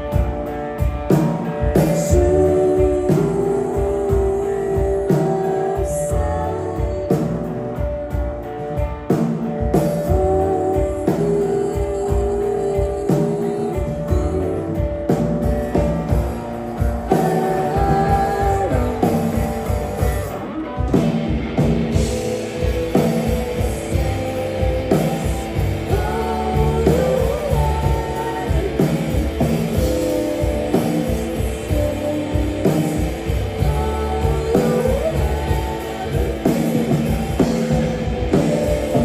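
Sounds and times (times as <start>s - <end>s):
bass guitar: 0.0s - 39.0s
drum kit: 0.0s - 39.0s
electric guitar: 0.0s - 39.0s
person singing: 1.1s - 8.4s, 9.6s - 16.2s, 16.8s - 21.3s, 21.9s - 39.0s.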